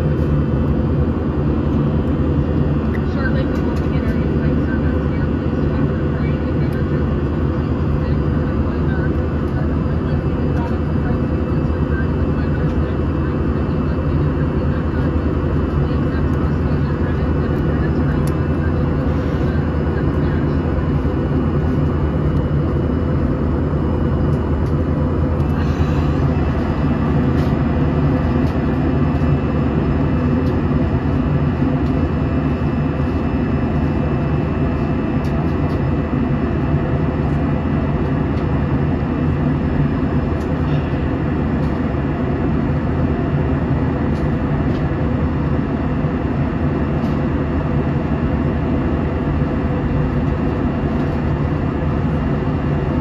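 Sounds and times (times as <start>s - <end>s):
jet cabin engine rumble: 0.0s - 53.0s.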